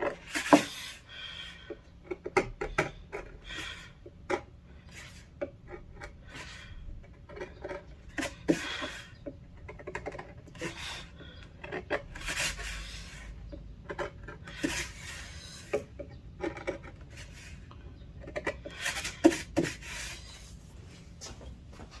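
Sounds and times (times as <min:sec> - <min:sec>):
chisel scraping wood: 0:00.0 - 0:20.7.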